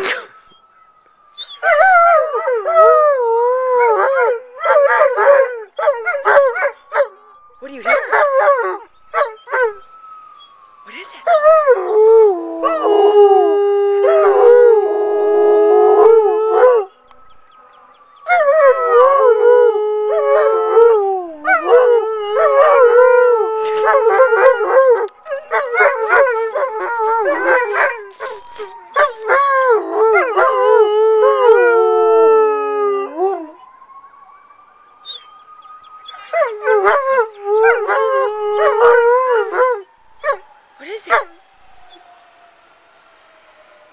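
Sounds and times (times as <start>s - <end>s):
faint siren wailing: 0.0s - 43.9s
dogs howling: 1.4s - 10.0s, 11.3s - 16.9s, 18.3s - 33.6s, 36.0s - 42.1s.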